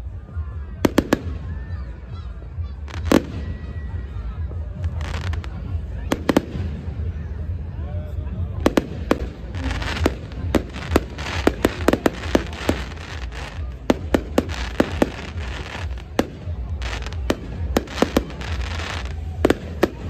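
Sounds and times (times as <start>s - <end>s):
fireworks bursting: 0.8s - 1.9s, 2.8s - 7.4s, 8.5s - 20.0s.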